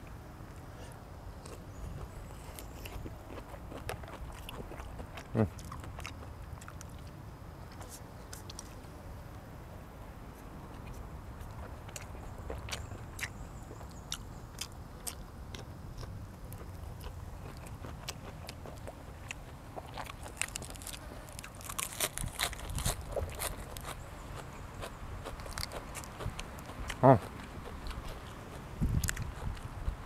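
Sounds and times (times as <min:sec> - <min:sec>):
person chewing crunchy food: 0:01.4 - 0:08.7, 0:10.7 - 0:30.0.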